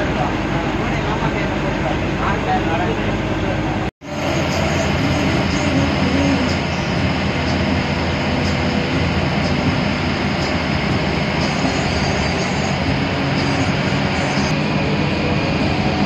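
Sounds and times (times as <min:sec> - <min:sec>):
bus engine and road noise: 0:00.0 - 0:16.0.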